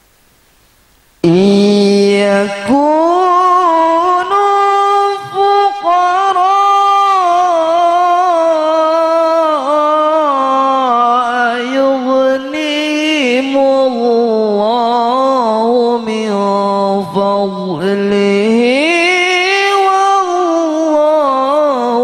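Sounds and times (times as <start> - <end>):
man chanting into a microphone: 1.2 - 22.0.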